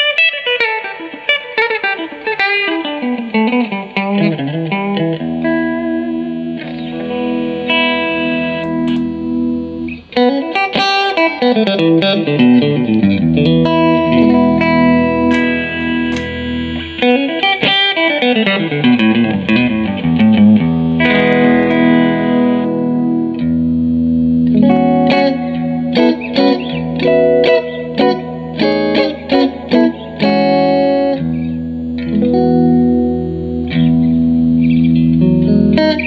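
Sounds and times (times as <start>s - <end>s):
clean electric guitar: 0.0s - 36.0s.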